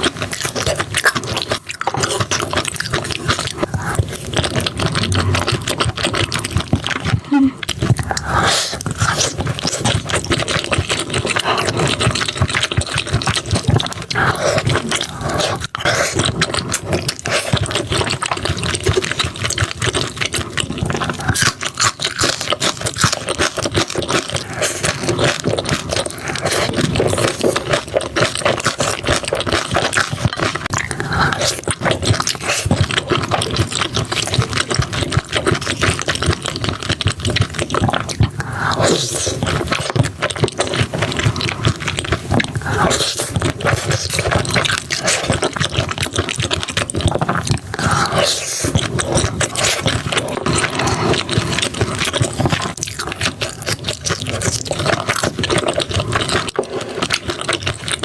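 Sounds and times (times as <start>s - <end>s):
wet chewing and slurping: 0.0s - 58.0s.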